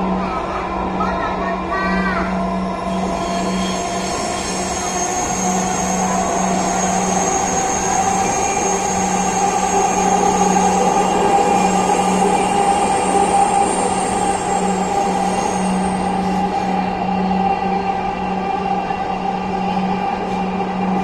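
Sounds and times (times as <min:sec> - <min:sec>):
train running noise: 0:00.0 - 0:21.0
train whining tones: 0:00.0 - 0:21.0.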